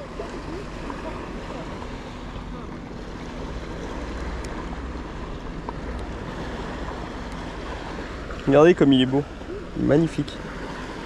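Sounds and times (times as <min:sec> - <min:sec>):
water lapping around paddle board: 0:00.0 - 0:11.0.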